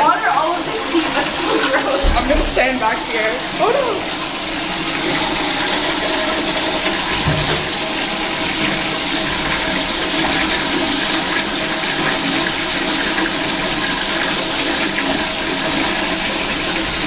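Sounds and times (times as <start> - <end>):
toilet flushing: 0.0 - 17.0.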